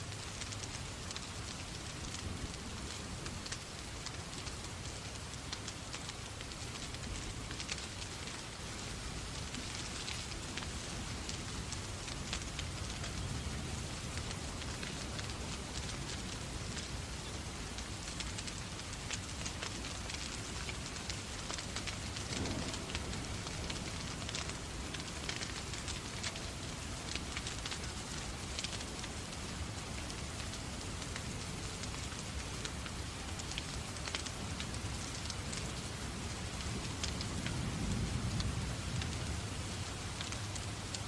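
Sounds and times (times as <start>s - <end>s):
steady rain: 0.0s - 41.0s
wood fire crackling: 0.0s - 41.0s.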